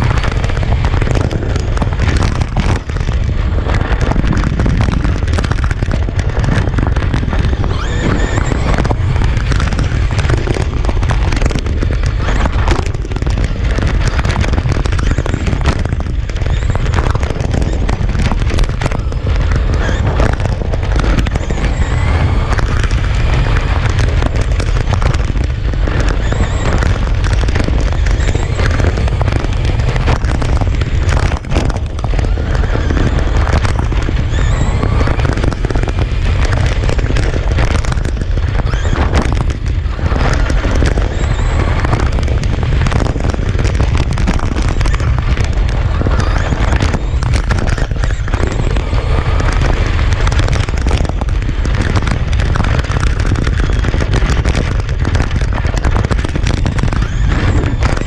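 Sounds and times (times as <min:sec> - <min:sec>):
rc car rumble on asphalt: 0:00.0 - 0:58.0
electric motor whine: 0:04.0 - 0:51.0.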